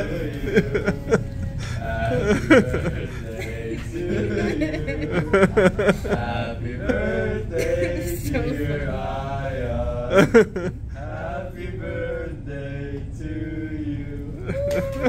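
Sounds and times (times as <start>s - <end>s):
men singing chant-like melody: 0.0s - 15.0s.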